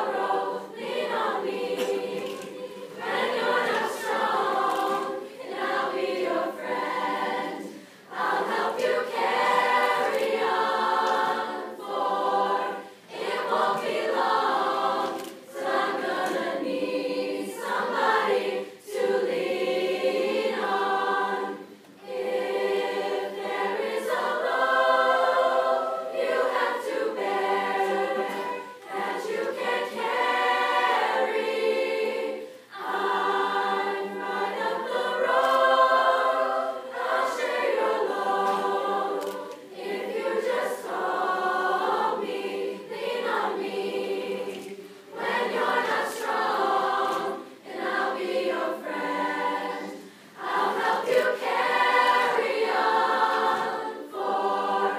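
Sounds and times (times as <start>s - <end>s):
choir singing a cappella: 0.0s - 54.9s.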